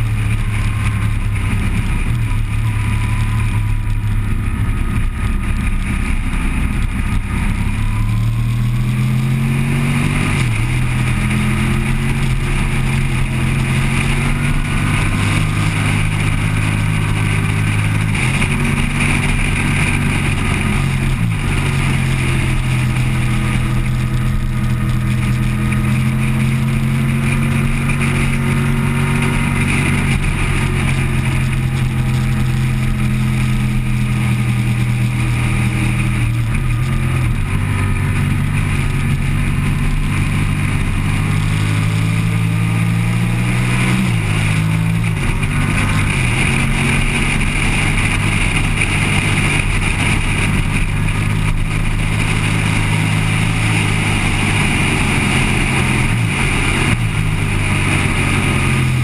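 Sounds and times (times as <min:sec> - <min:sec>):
motorcycle engine running hard: 0:00.0 - 0:59.0
wind noise: 0:00.0 - 0:59.0.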